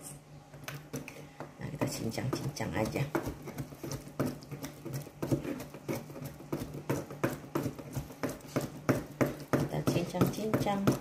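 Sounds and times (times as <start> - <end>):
cleaver chopping on cutting board: 1.8 - 11.0.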